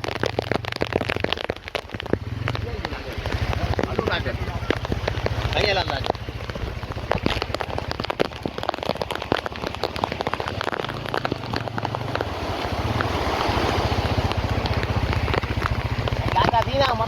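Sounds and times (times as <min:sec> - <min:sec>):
low steady rumble: 0:00.0 - 0:17.0
rain drops hitting close: 0:00.0 - 0:17.0
rain hiss: 0:00.0 - 0:17.0.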